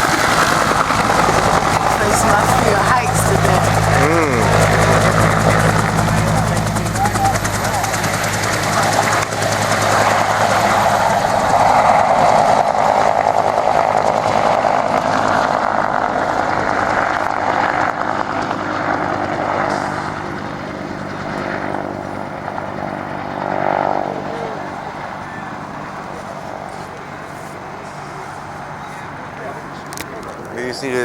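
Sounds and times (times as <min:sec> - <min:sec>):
helicopter rotor and turbine: 0:00.0 - 0:31.0.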